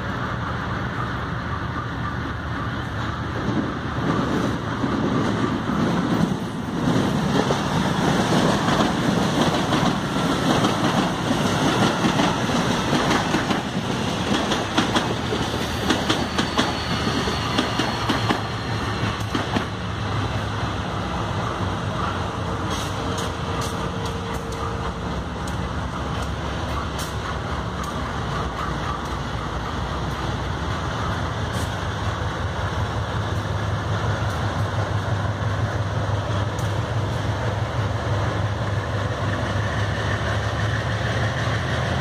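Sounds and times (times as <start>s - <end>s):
locomotive engines droning: 0.0s - 42.0s
train wheels clicking over rail joints: 0.9s - 42.0s.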